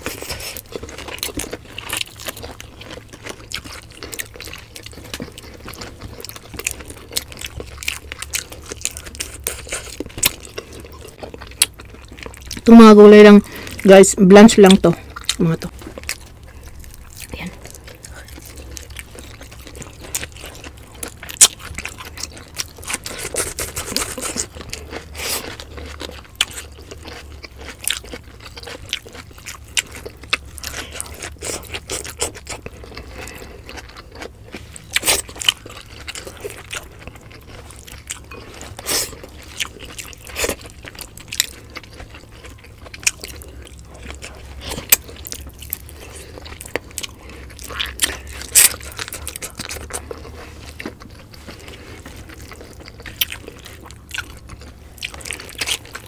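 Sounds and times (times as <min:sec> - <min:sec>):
chewing and crunching food: 0:00.0 - 0:56.0
low steady hum: 0:00.0 - 0:56.0.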